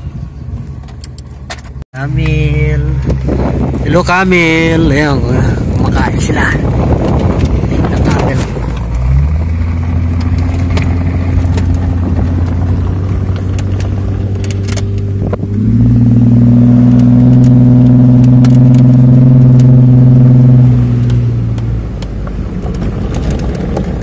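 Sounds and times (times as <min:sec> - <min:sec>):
off-road vehicle engine revving: 0:02.0 - 0:23.8.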